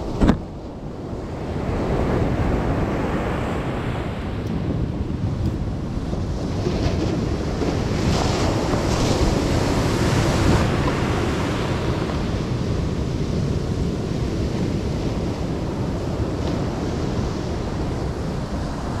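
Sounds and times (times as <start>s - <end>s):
ocean surf washing: 0.0s - 19.0s
wind buffeting microphone: 0.0s - 19.0s.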